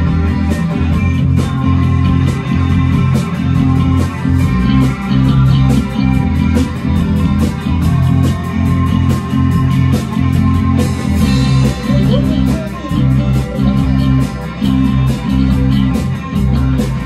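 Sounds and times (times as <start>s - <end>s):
bass guitar: 0.0s - 17.0s
drum and cymbal hits: 0.0s - 17.0s
electric guitar strummed: 0.0s - 17.0s.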